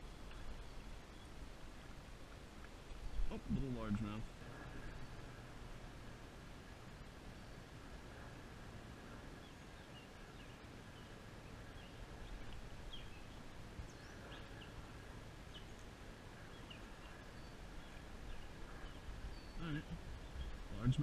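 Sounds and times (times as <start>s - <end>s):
outdoor background noise: 0.0s - 21.0s
small birds chirping: 0.0s - 21.0s.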